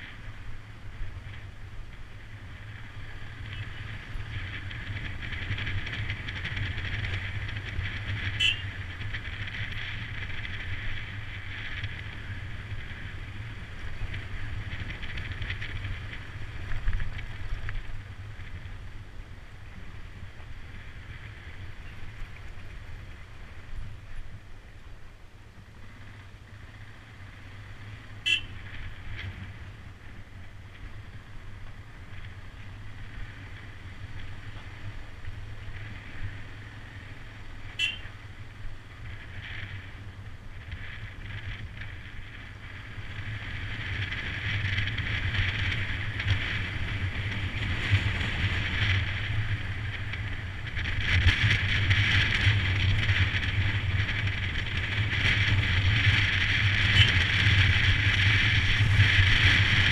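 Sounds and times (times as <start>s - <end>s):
wind noise: 0.0s - 25.1s, 25.9s - 59.9s
motorcycle engine running: 0.0s - 59.9s.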